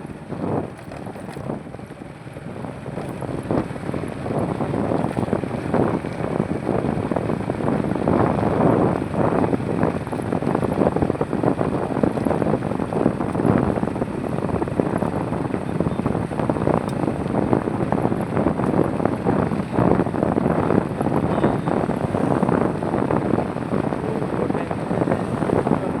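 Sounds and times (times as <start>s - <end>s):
highway traffic rumble: 0.0s - 26.0s
wind buffeting microphone: 0.0s - 26.0s.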